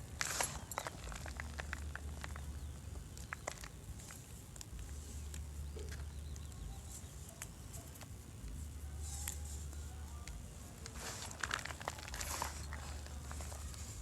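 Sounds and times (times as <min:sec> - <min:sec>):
steady low hum: 0:00.0 - 0:14.0
chalk crushing crackles: 0:00.2 - 0:14.0.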